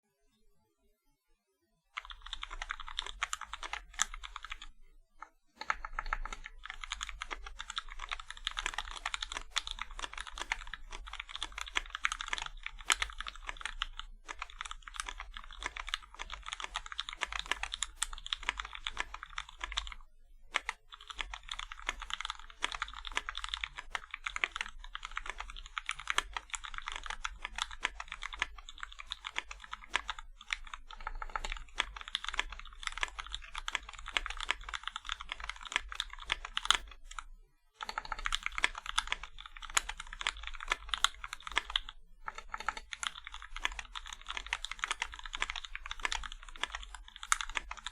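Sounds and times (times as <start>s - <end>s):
fast mechanical keyboard typing: 2.0s - 47.9s.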